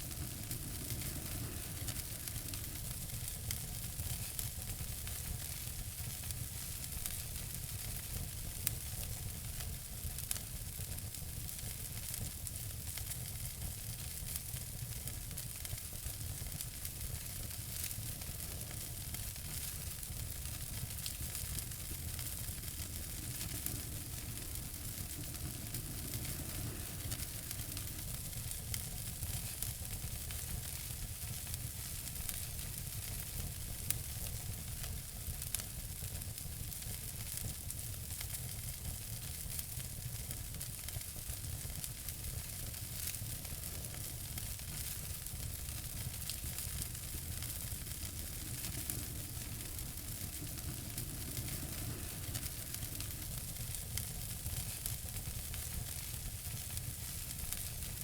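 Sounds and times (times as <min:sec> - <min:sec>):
wood fire crackling: 0:00.0 - 0:58.0
loud fire snaps: 0:00.1 - 0:58.0.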